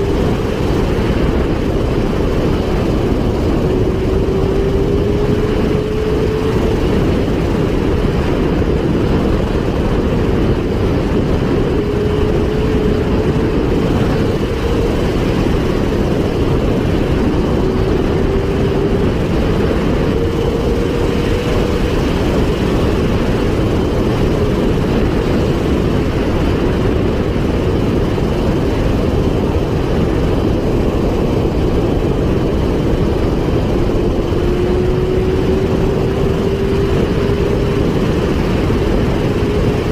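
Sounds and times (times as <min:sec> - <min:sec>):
vehicle rumble and wind noise: 0:00.0 - 0:39.9.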